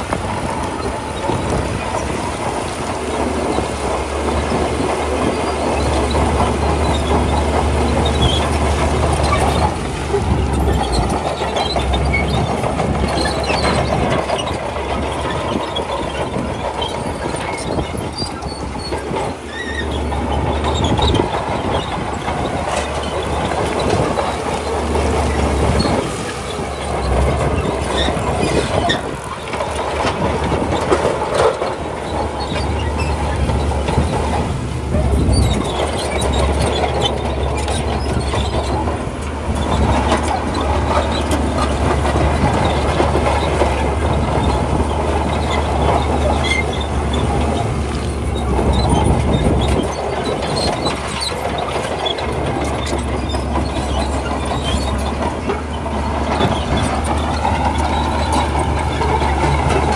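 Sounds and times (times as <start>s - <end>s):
diesel engine drone: 0.0s - 59.9s
steel tracks clattering and squealing: 0.0s - 59.9s.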